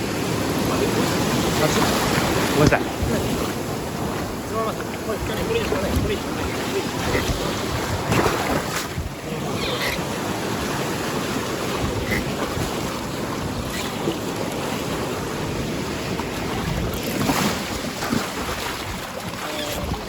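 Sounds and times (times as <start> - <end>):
sea surf: 0.0 - 20.0
wind buffeting microphone: 0.0 - 20.0.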